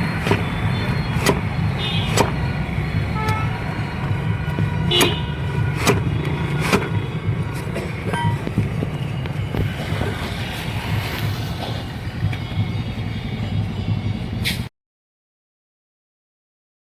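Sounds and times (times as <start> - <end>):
low hum of engine and traffic: 0.0 - 14.7.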